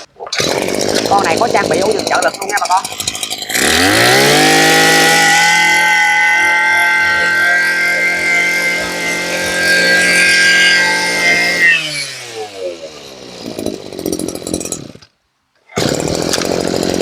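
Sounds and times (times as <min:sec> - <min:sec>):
brush cutter engine running: 0:00.0 - 0:17.0.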